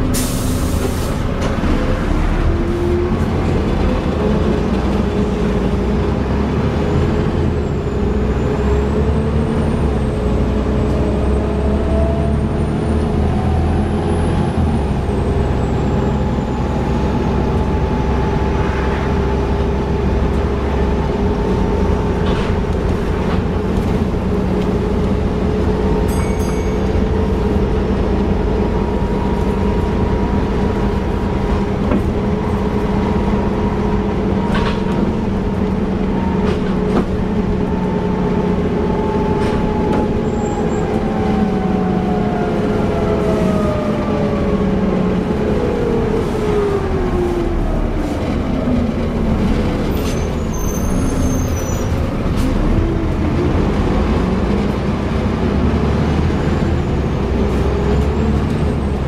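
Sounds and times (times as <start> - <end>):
bus engine and gearbox whine: 0.0 - 59.0.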